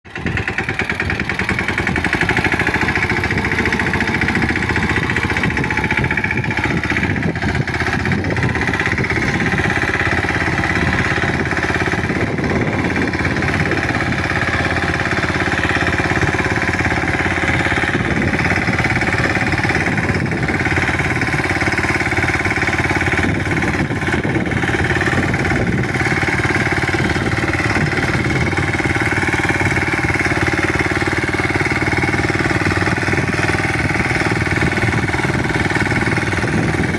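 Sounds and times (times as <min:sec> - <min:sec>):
tractor diesel engine knocking: 0:00.0 - 0:36.9.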